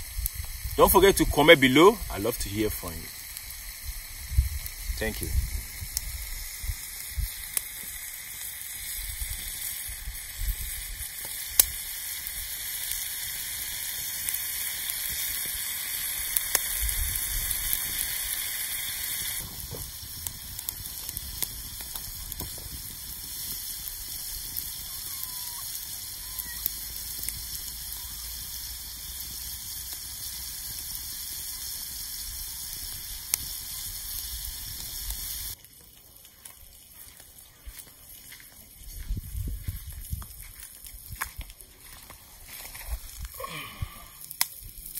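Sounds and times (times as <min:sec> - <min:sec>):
fire popping and crackling: 0:00.0 - 0:44.9
meat sizzling on hot stone: 0:00.0 - 0:44.9.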